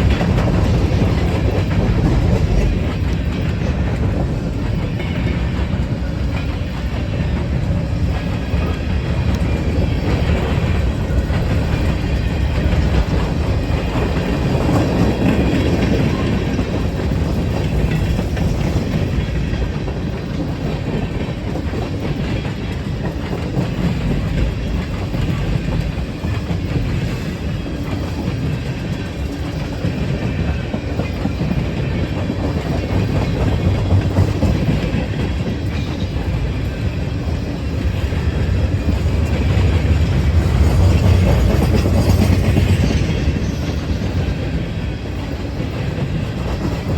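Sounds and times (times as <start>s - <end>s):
freight train wheels clattering: 0.0s - 46.9s.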